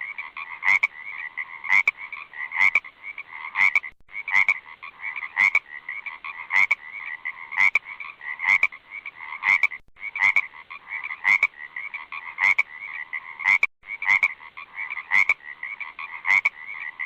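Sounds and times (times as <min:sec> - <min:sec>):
frogs calling in chorus: 0:00.0 - 0:17.0.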